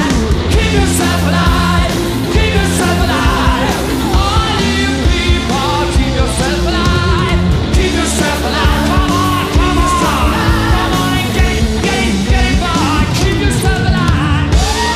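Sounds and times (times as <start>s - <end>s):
drums: 0.0s - 14.9s
electric guitar: 0.0s - 14.9s
person singing: 0.0s - 14.9s.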